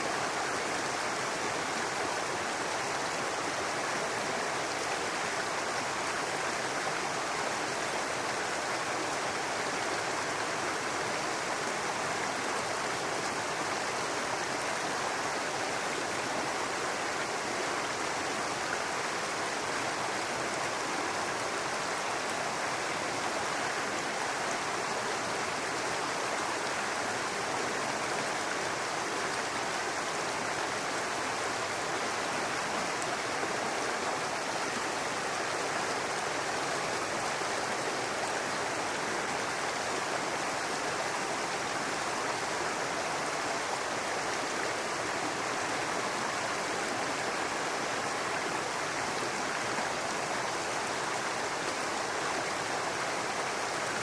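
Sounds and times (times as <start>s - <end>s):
brook babbling over rocks: 0.0s - 54.0s.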